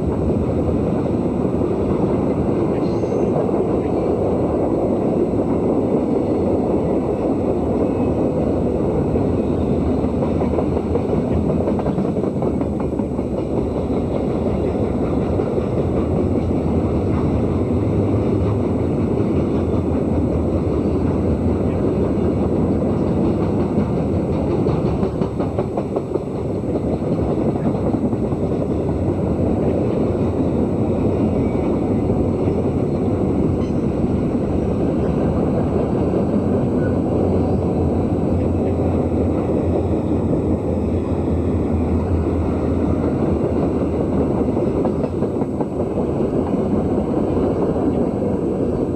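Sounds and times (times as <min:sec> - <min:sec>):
freight train passing: 0:00.0 - 0:48.9.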